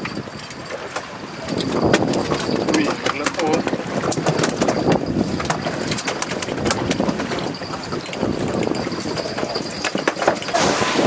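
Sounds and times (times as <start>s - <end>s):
boat engine running: 0.0s - 11.0s
fish flapping on boat deck: 0.0s - 11.0s.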